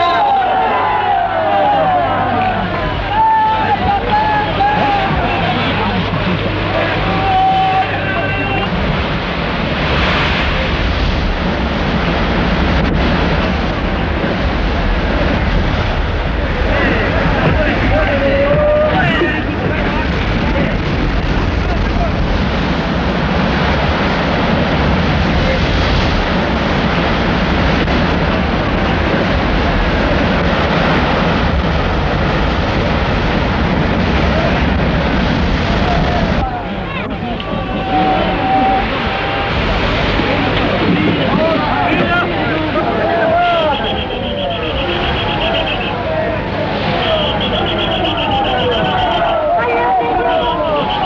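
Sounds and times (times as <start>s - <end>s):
sea water churning: 0.0s - 51.0s.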